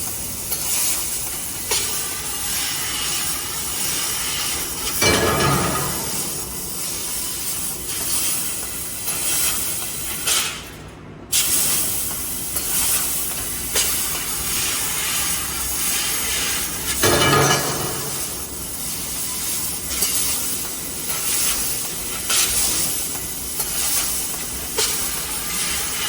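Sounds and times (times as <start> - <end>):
laser cutting machine hissing: 0.0 - 10.7, 11.3 - 26.0.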